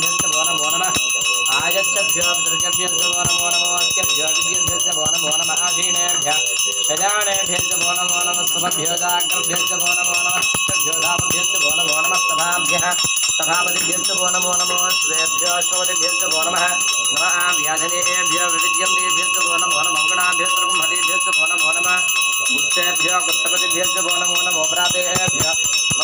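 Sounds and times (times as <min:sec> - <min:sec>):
hand bell ringing rapidly: 0:00.0 - 0:26.0
person chanting: 0:00.0 - 0:26.0.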